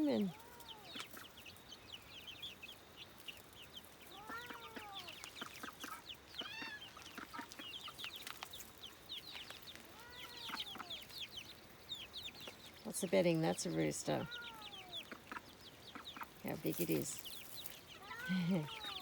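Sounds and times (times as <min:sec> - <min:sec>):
chickens arching calls: 0:00.0 - 0:19.0
chicks cheeping: 0:00.0 - 0:19.0.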